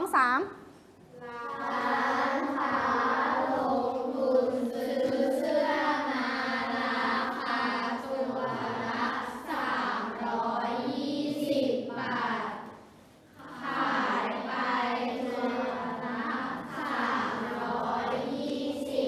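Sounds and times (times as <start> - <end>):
children chanting in unison: 1.2 - 12.8, 13.4 - 19.0.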